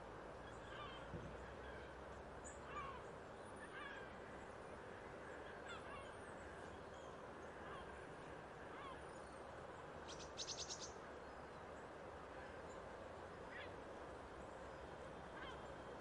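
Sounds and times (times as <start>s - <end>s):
faint steady background hum: 0.0s - 16.0s.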